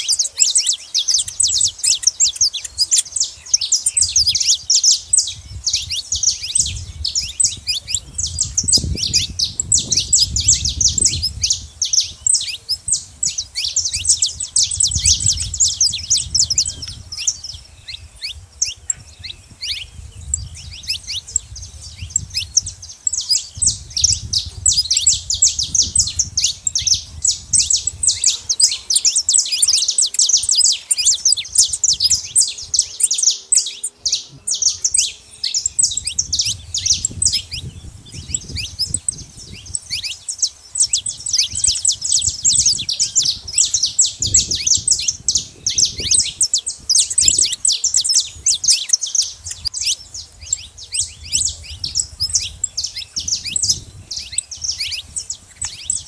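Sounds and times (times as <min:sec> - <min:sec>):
finches chirping and singing: 0:00.0 - 0:56.0.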